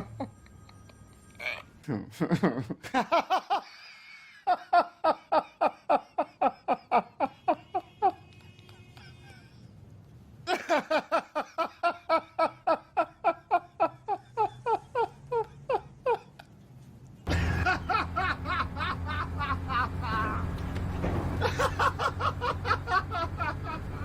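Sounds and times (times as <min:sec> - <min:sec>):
person laughing: 0:00.0 - 0:09.7, 0:10.4 - 0:16.6, 0:17.3 - 0:20.6, 0:21.4 - 0:24.0.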